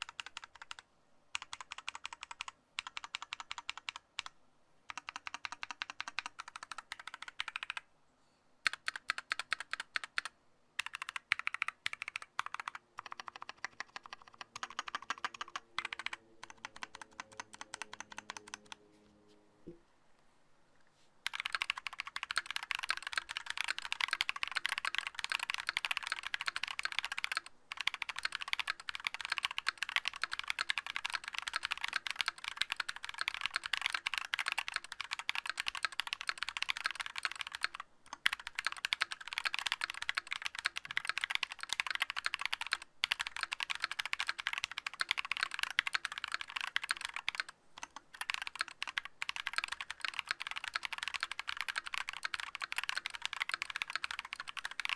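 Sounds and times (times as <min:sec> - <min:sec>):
fast mechanical keyboard typing: 0:00.0 - 0:00.8, 0:01.4 - 0:04.3, 0:04.9 - 0:07.8, 0:08.7 - 0:18.8, 0:21.2 - 0:54.9.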